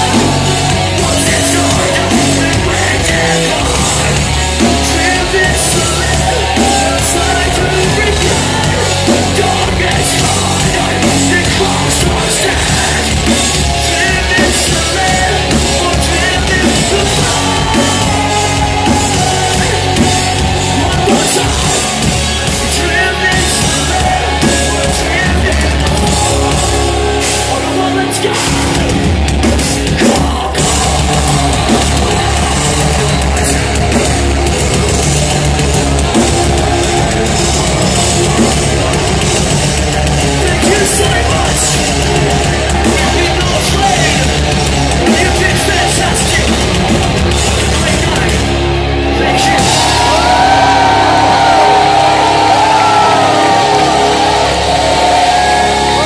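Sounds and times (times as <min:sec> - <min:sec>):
distorted electric guitars: 0:00.0 - 0:56.0
pounding drum kit: 0:00.0 - 0:56.0.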